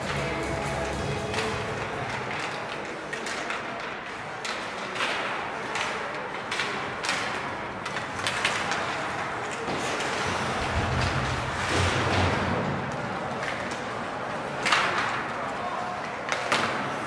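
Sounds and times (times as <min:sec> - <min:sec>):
hockey knocks and scrapes: 0:01.3 - 0:17.0.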